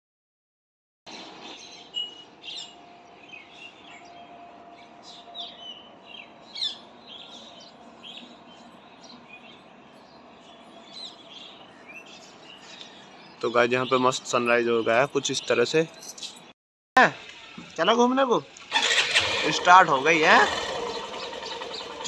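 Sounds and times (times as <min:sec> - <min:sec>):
birds chirping: 0:01.1 - 0:16.5, 0:17.2 - 0:22.0.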